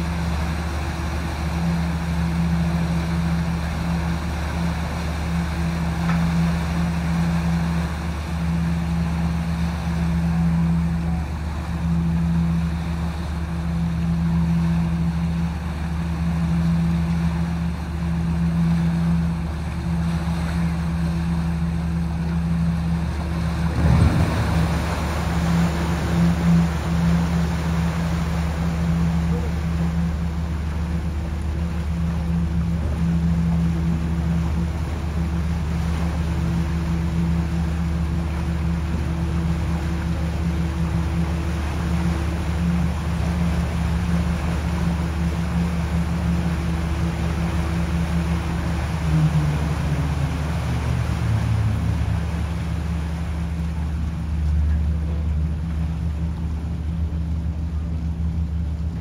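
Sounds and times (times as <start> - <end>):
large engine droning: 0.0 - 59.0.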